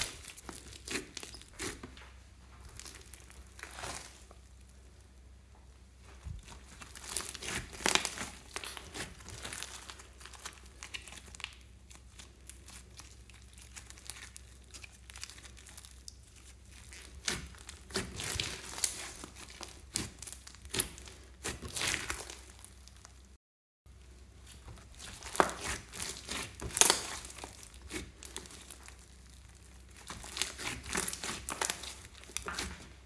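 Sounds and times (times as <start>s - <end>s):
slime crackling and popping: 0.0s - 1.9s, 2.6s - 4.8s, 6.4s - 23.4s, 24.4s - 33.0s.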